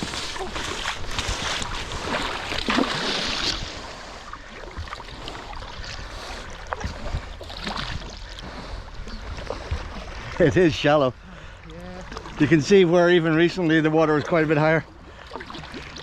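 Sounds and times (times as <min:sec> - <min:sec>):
river running: 0:00.0 - 0:15.4
paddle splashing in water: 0:00.0 - 0:16.0.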